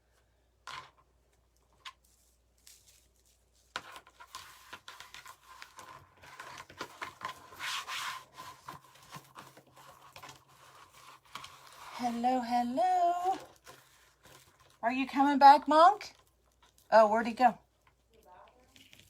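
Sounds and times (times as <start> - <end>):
rustling and crinkling materials: 0.0 - 19.0.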